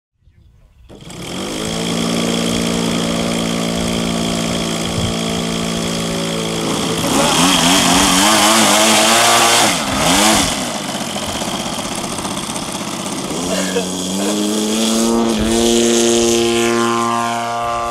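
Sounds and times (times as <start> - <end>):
model airplane engine revving: 0.9 - 17.9.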